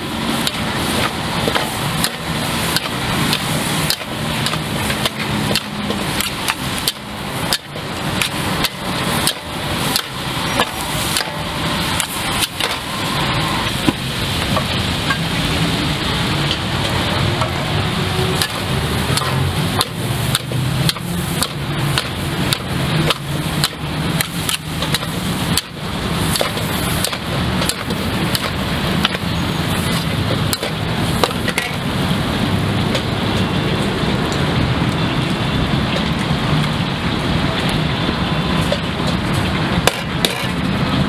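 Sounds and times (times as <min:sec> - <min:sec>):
food sizzling in a wok: 0:00.0 - 0:32.9.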